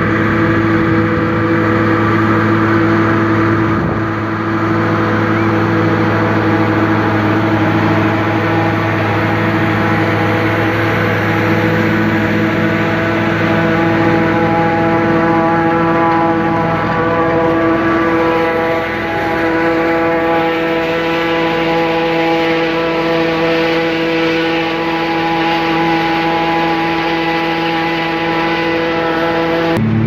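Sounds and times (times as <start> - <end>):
tractor diesel engine: 0.0 - 30.0.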